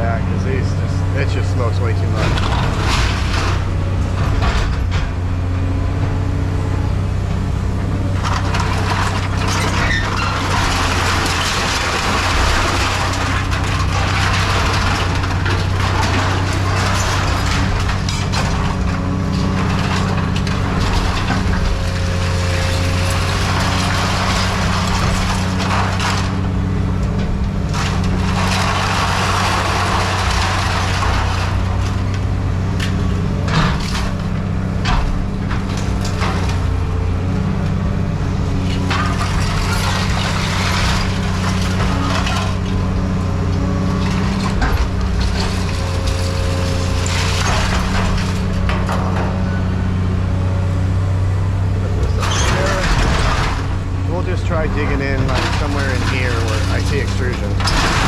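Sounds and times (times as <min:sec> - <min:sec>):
diesel engine under load: 0:00.0 - 0:58.0
scrap metal crunching and scraping: 0:00.0 - 0:58.0.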